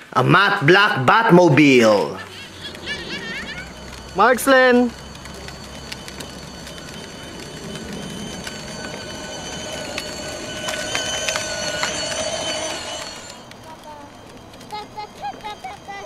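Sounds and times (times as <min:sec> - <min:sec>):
plastic wheels rolling on concrete: 0:00.6 - 0:16.0
toy car electric motor whine: 0:01.8 - 0:16.0.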